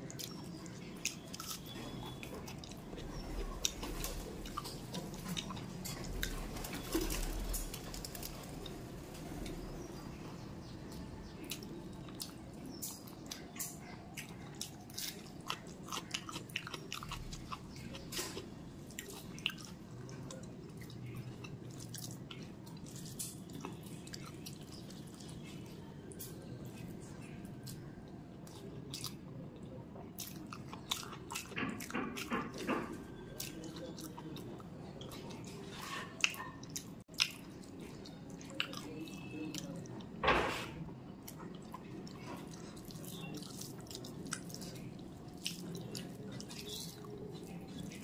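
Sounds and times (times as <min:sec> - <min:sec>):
close chewing with wet mouth clicks: 0:00.0 - 0:06.4, 0:11.3 - 0:40.1, 0:41.2 - 0:48.0.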